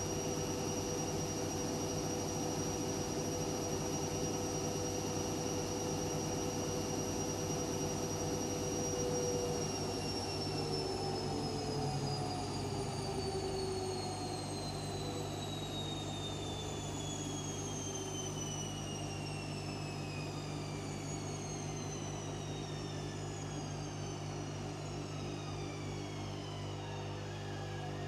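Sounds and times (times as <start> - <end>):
washing machine motor whining: 0.0 - 28.0.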